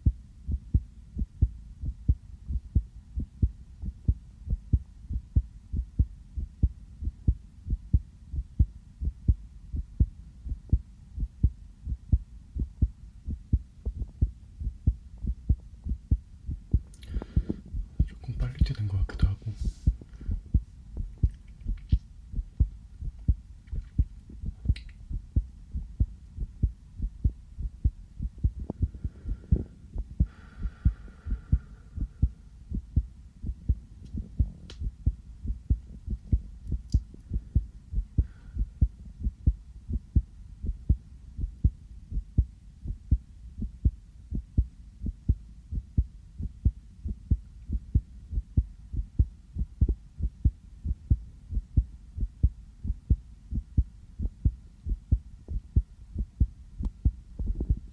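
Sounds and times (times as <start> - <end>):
heartbeat thumps: 0.0 - 57.9.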